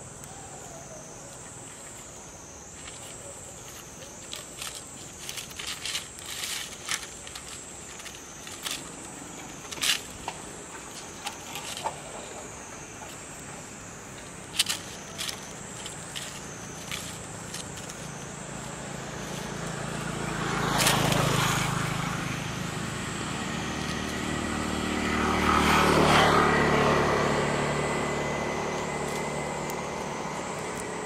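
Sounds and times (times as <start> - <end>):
insects buzzing: 0.0 - 31.0
rustles: 0.0 - 31.0.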